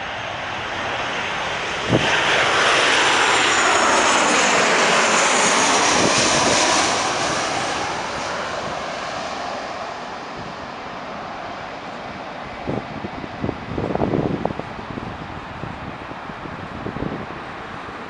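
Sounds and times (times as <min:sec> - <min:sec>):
jet engines roaring with high whine: 0:00.0 - 0:18.0.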